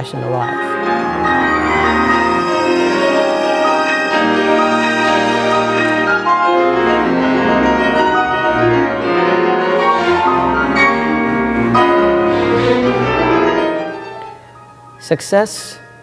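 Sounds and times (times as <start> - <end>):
string orchestra: 0.0 - 14.4
grand piano: 0.0 - 16.0.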